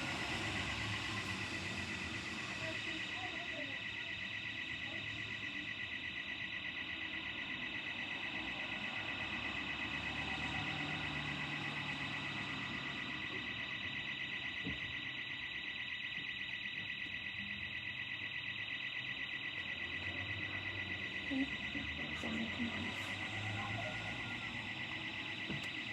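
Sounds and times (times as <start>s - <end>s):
pulsing burglar alarm tone: 0.0s - 25.9s.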